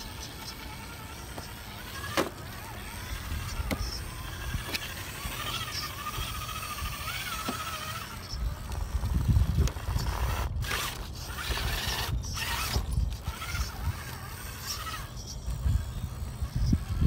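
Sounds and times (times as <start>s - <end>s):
rc car electric motor whining: 0.0s - 17.0s.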